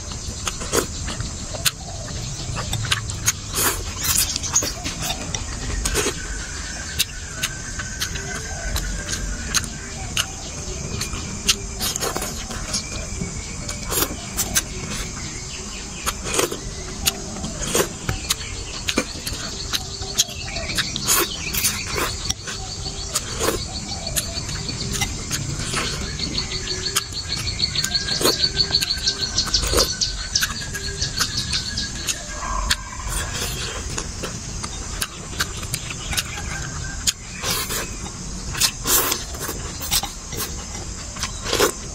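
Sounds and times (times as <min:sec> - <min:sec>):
chirping: 0:00.0 - 0:41.9
slurping and chewing: 0:00.0 - 0:41.9.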